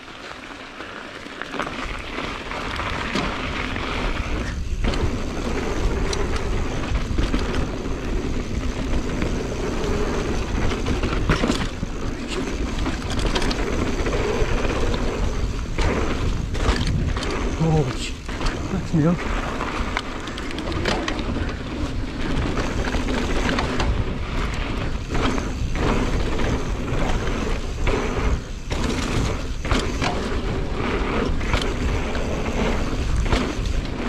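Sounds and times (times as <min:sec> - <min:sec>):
bike tyre and wind noise: 0:00.0 - 0:34.0.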